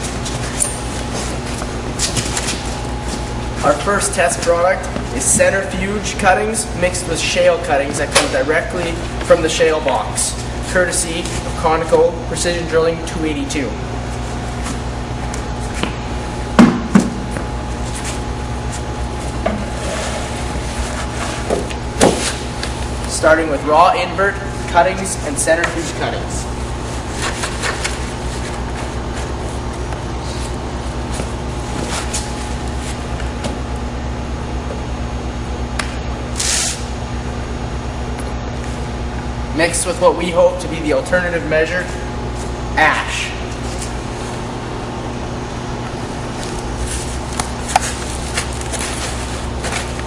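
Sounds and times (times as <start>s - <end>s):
machinery droning: 0.0s - 50.0s
steady mechanical hum: 0.0s - 50.0s.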